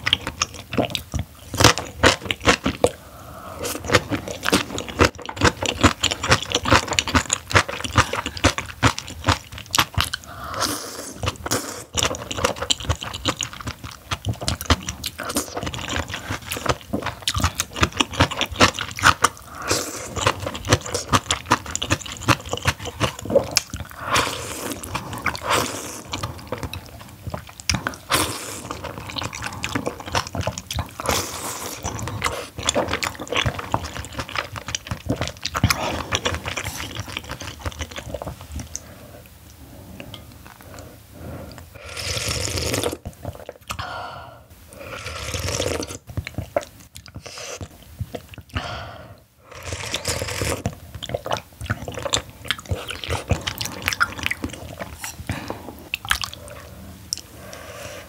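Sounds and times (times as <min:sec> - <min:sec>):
wet chewing: 0:00.0 - 0:43.9, 0:45.1 - 0:48.8, 0:49.5 - 0:58.0.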